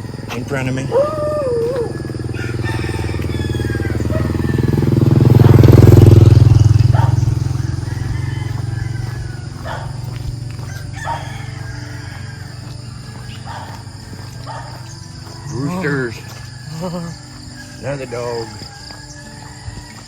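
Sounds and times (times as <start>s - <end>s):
motor vehicle passing by: 0.0s - 20.0s.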